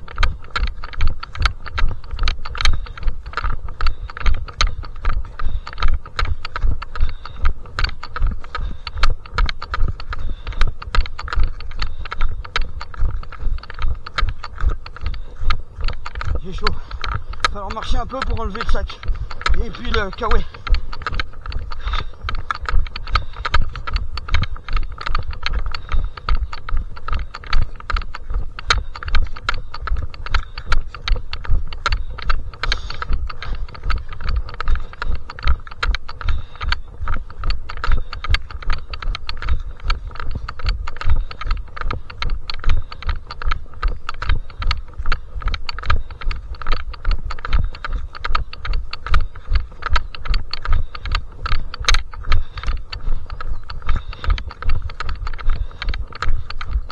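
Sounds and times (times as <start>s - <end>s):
footsteps on mountain path: 0.0s - 56.9s.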